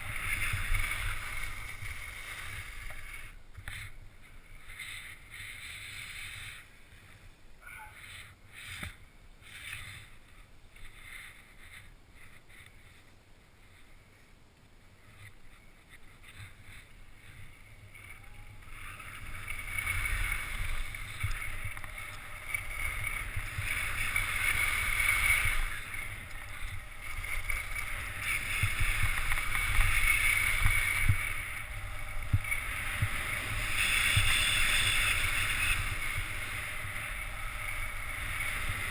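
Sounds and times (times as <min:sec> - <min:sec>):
wind rumbling on microphone: 0:00.0 - 0:07.4, 0:14.9 - 0:38.9
skis scraping over snow: 0:00.0 - 0:38.9.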